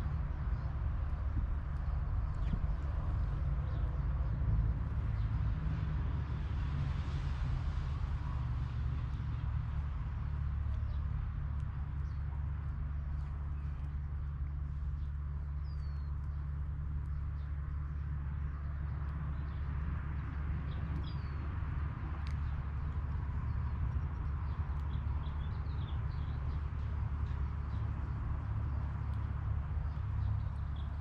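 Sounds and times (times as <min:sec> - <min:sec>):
steady low rumble: 0:00.0 - 0:06.5, 0:07.5 - 0:31.0.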